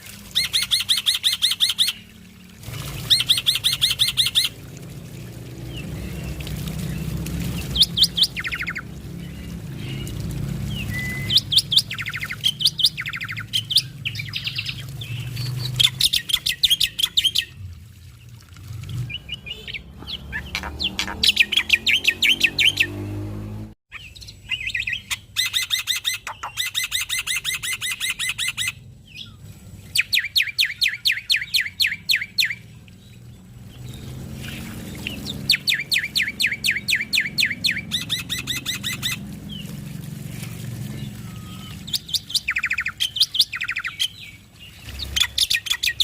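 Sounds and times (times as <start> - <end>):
bird singing high chirping trills: 0.3 - 2.2, 2.9 - 4.6, 5.7 - 17.6, 19.1 - 23.1, 23.9 - 39.8, 40.8 - 46.0.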